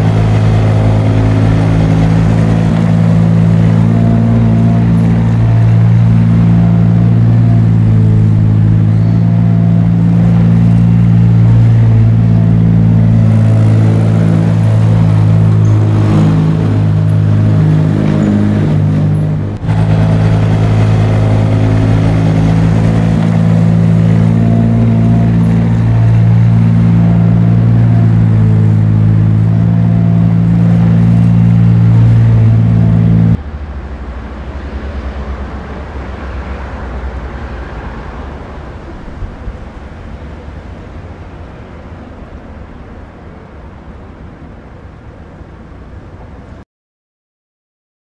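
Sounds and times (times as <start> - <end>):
engine humming: 0.0 - 46.6.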